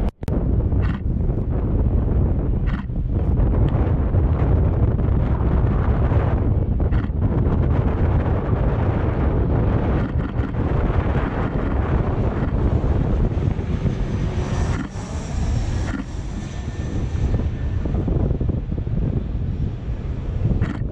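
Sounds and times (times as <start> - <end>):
jet airliner engines rumbling: 0.0 - 20.9
thin high engine whine: 0.0 - 20.9
wind buffeting microphone: 0.0 - 20.9.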